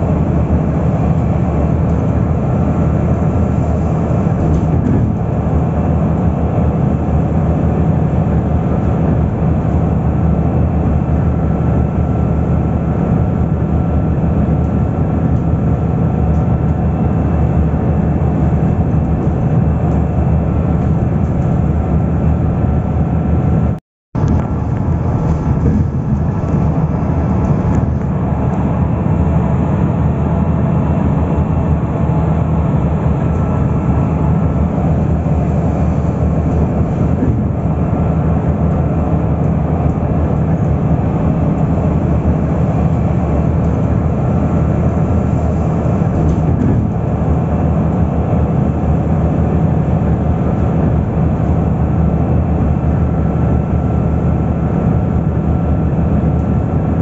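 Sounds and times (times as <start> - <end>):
vehicle road and engine noise: 0.0 - 57.0.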